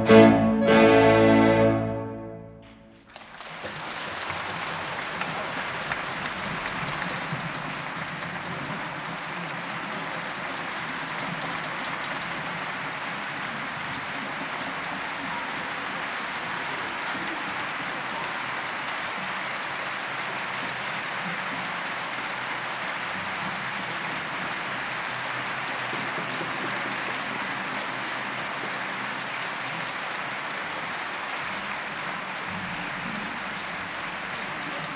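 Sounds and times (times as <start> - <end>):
audience applauding: 2.6 - 34.9.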